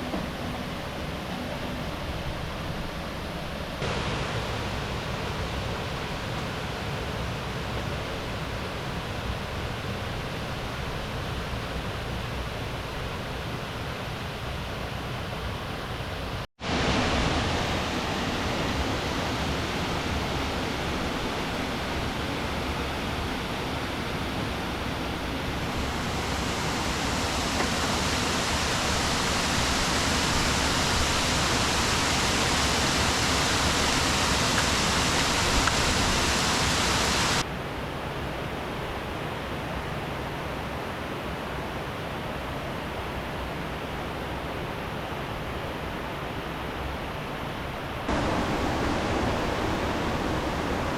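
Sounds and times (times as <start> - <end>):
river water rushing: 0.0 - 37.5, 39.6 - 50.9.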